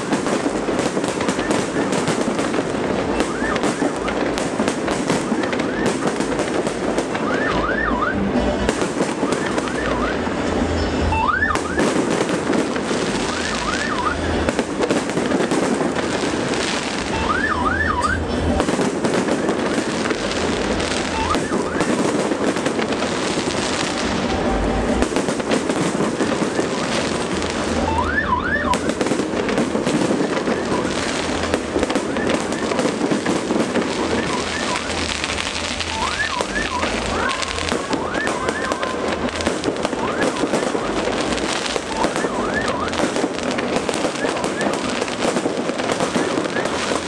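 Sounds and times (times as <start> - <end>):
rising firework whistles: 0.0 - 10.4, 11.1 - 47.0
fireworks crackling and popping: 0.0 - 47.0.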